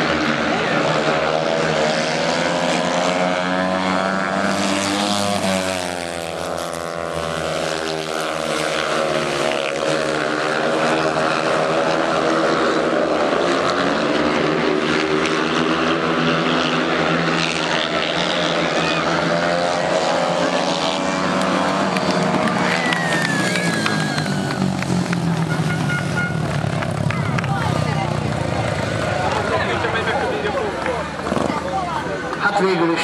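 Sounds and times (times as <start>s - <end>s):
motorcycles racing: 0.0s - 33.0s.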